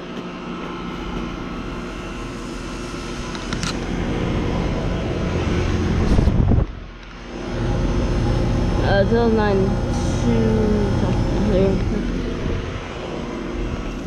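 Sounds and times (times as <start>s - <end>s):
heat pump compressor and fan hum: 0.0s - 14.0s
low rumble: 1.3s - 14.0s.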